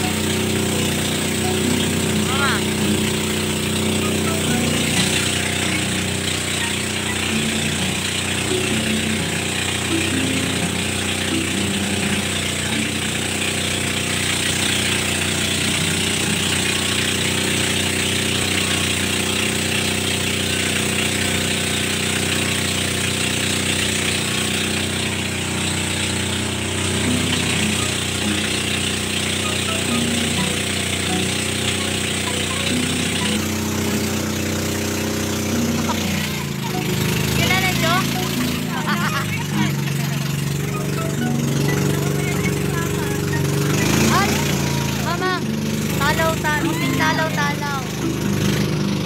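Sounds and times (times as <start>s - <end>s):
boat engine running steadily: 0.0s - 49.0s.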